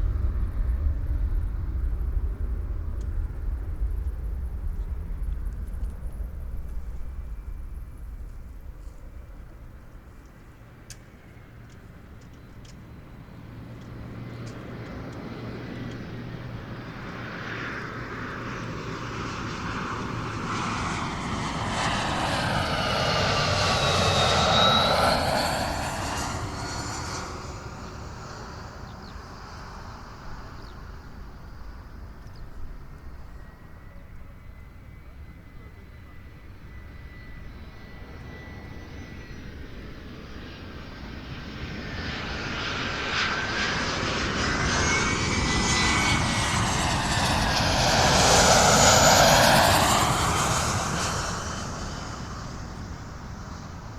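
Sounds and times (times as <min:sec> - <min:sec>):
airplane passing overhead: 0:00.0 - 0:53.9
approaching airplane: 0:00.0 - 0:53.9.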